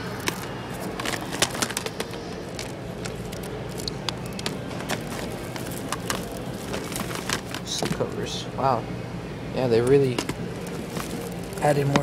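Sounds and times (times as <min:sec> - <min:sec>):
low background noise: 0:00.0 - 0:12.0
plastic cases clacking: 0:00.2 - 0:08.0, 0:10.1 - 0:12.0.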